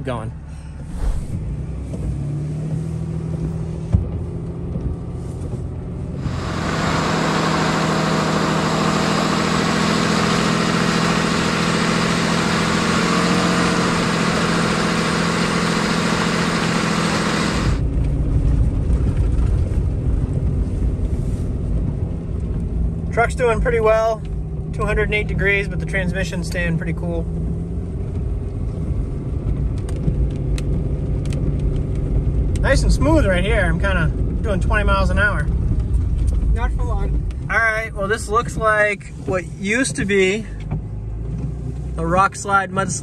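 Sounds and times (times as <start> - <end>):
engine and road rumble in cab: 0.0 - 43.0.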